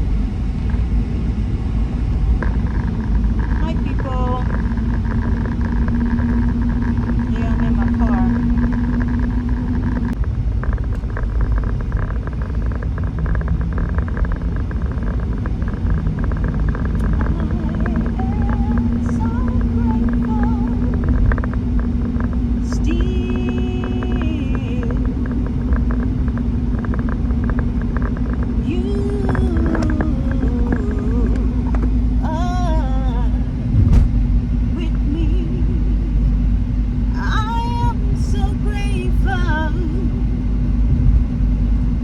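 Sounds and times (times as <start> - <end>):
road and engine rumble: 0.0 - 42.0
steady hum: 0.0 - 42.0.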